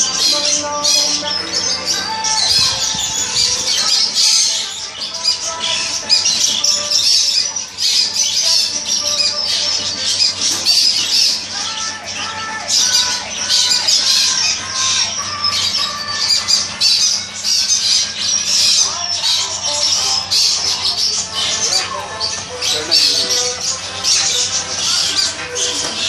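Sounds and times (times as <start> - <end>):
caged birds squawking and chattering: 0.0 - 26.0.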